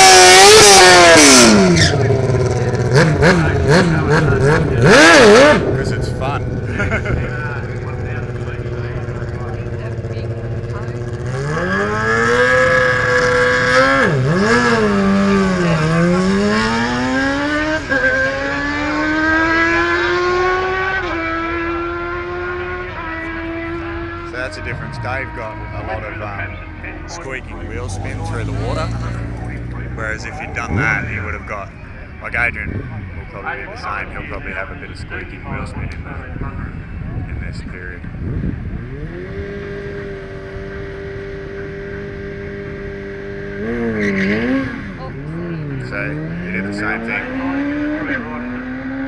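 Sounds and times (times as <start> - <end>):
motorcycle accelerating hard: 0.0 - 49.0.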